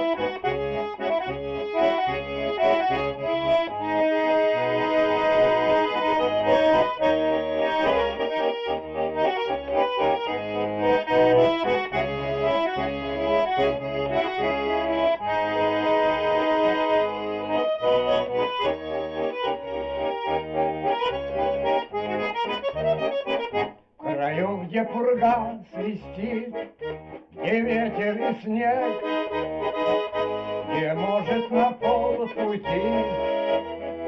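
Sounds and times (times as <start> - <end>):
accordion playing: 0.0 - 34.0.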